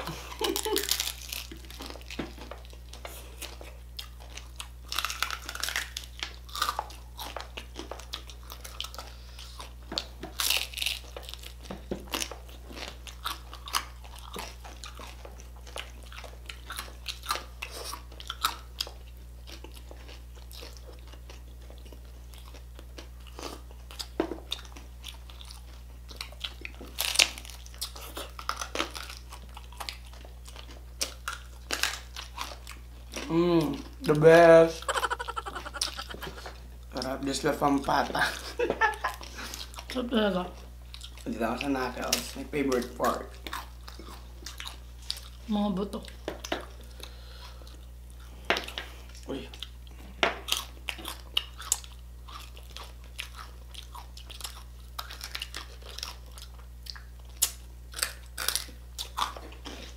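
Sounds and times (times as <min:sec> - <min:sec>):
crispy skin crunched while chewing: 0:00.0 - 0:40.0, 0:40.6 - 0:45.5, 0:46.1 - 0:59.9.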